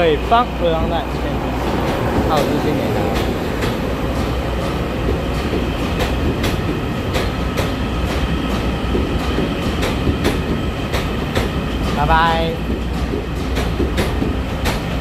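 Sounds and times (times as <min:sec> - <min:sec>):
electric train rumbling: 0:00.0 - 0:15.0
wheels clicking over rail joints: 0:00.0 - 0:15.0.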